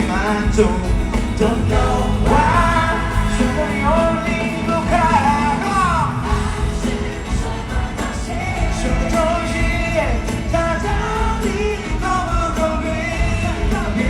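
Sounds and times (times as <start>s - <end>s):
rock-pop band playing live: 0.0s - 14.0s.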